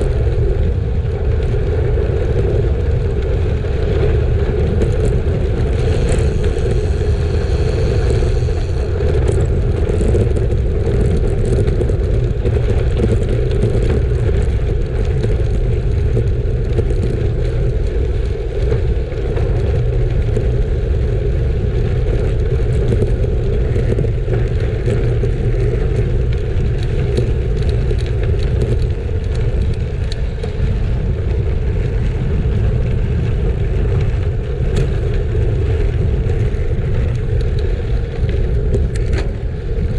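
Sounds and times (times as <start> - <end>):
bicycle tyres rolling on gravel: 0.0 - 39.9
gravel clicking under wheels: 0.0 - 39.9
wind rumbling on microphone: 0.0 - 39.9.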